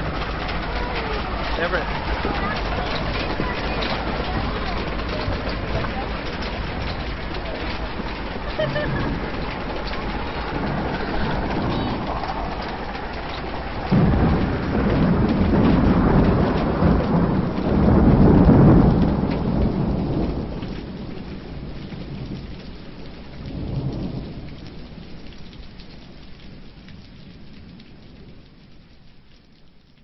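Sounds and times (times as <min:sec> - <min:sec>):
thunder rumbling: 0:00.0 - 0:28.9
rain: 0:00.0 - 0:30.0.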